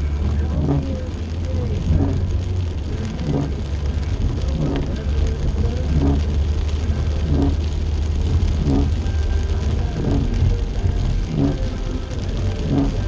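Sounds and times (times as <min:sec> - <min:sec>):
rain on car windows: 0:00.0 - 0:13.0
road and engine rumble: 0:00.0 - 0:13.0
windshield wipers sweeping: 0:00.0 - 0:13.0.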